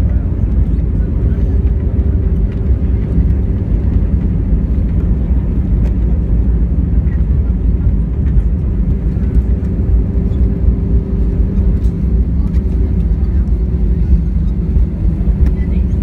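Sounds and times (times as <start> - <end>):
airplane cabin rumble: 0.0 - 16.0
constant hum: 0.0 - 16.0.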